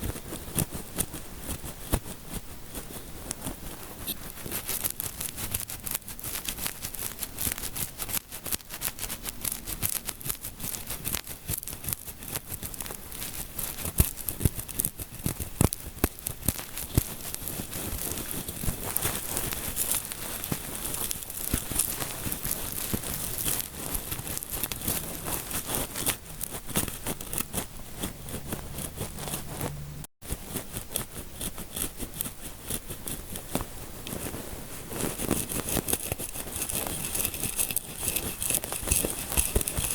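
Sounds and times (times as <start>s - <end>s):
fingertips scratching near microphone: 0.0s - 39.9s.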